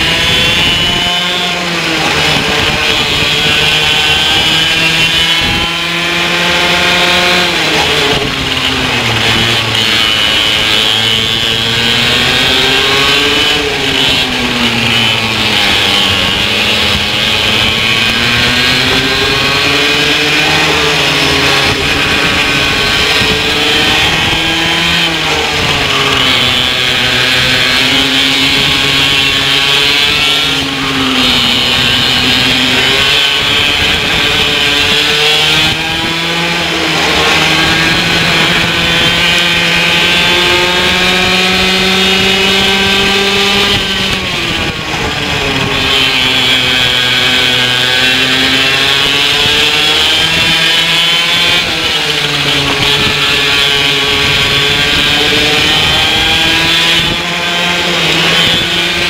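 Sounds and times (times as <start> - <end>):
racing kart engine revving: 0.0 - 59.0.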